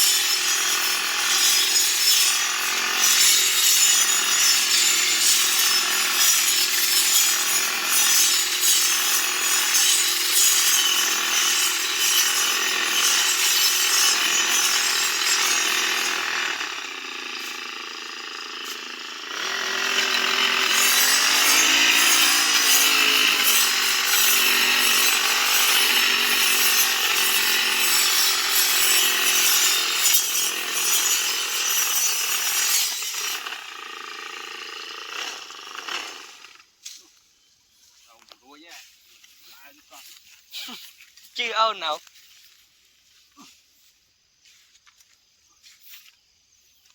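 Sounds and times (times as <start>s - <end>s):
grass cutting machine: 0.0s - 37.0s, 38.0s - 42.6s.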